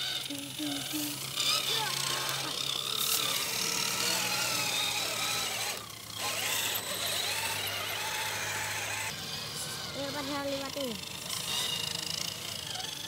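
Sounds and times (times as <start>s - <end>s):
rc truck motors whining: 0.0s - 13.0s.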